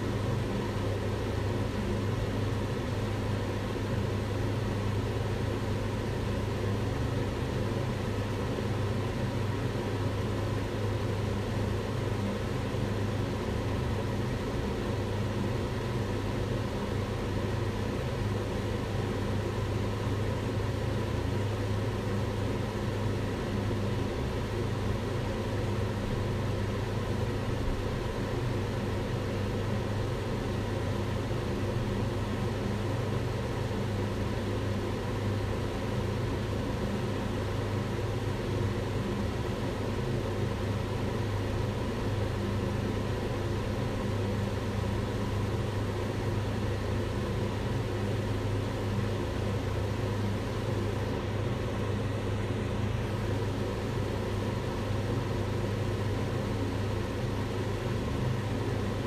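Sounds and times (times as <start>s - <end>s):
range hood fan running: 0.0s - 59.0s.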